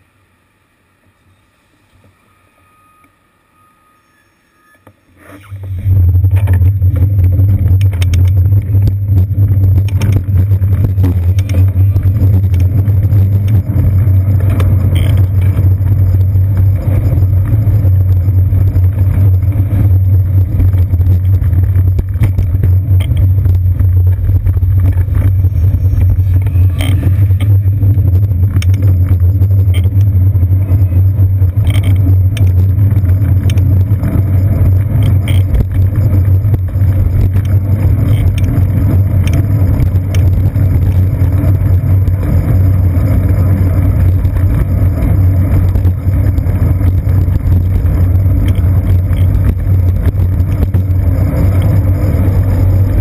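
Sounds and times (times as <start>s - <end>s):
low rumble with rattling: 5.2s - 53.0s
wind noise: 5.5s - 53.0s.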